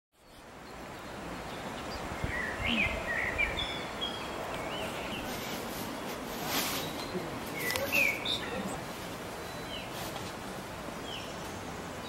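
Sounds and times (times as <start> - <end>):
small birds chirping: 0.2 - 12.0
rushing background noise: 0.4 - 12.0.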